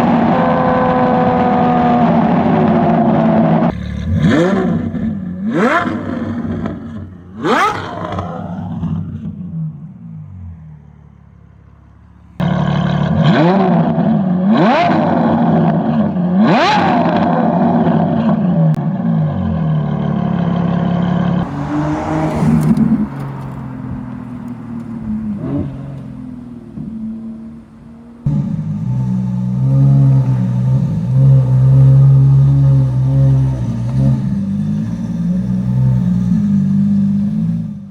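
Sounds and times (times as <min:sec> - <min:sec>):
car engine accelerating hard: 0:00.0 - 0:09.5, 0:12.4 - 0:37.9.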